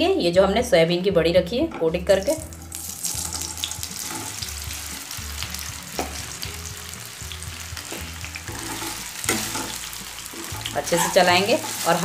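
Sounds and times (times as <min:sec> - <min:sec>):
food sizzling in hot oil: 0:02.2 - 0:12.0.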